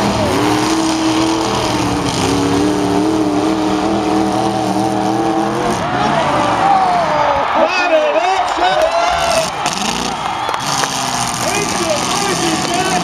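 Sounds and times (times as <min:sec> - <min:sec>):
car engines revving hard: 0:00.0 - 0:07.4, 0:09.0 - 0:13.0.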